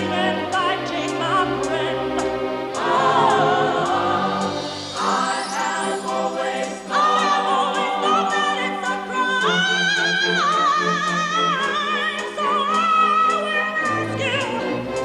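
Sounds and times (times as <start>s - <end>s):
choir singing operatic notes: 0.0s - 15.0s.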